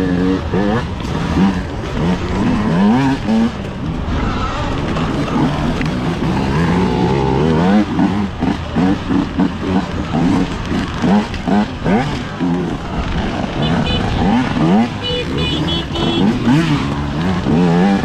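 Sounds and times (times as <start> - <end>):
dirt bikes racing: 0.0 - 18.0.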